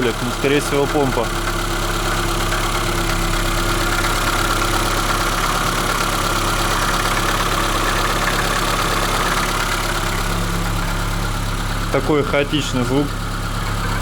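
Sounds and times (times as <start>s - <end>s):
car engine idling: 0.0s - 14.0s
chaotic engine knocking: 0.0s - 14.0s.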